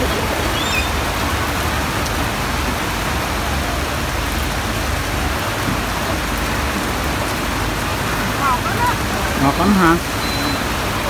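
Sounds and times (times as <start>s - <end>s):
pouring rain hiss: 0.0s - 11.0s.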